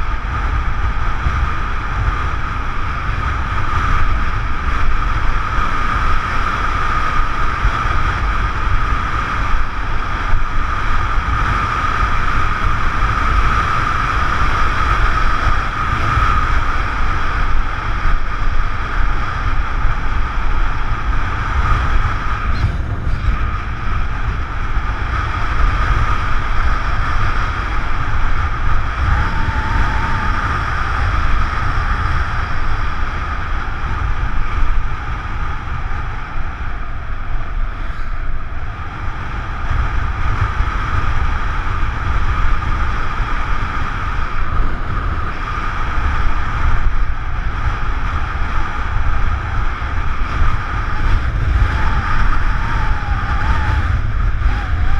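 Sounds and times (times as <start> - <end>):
motorbike engine running: 0.0 - 54.9
wind rushing over microphone: 0.0 - 54.9.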